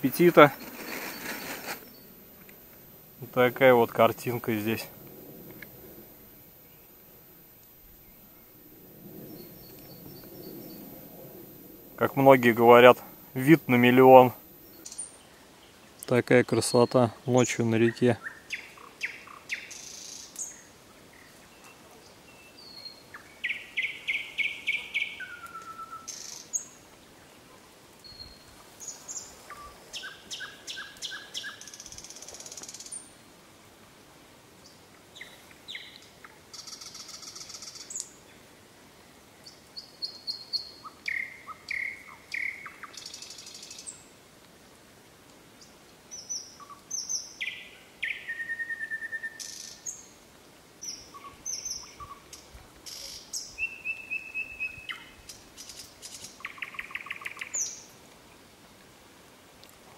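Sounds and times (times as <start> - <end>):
songbird singing: 0.0 - 27.4, 28.0 - 33.1, 34.6 - 38.4, 39.4 - 44.1, 45.6 - 50.2, 50.8 - 58.0
faint steady hiss: 0.0 - 59.9.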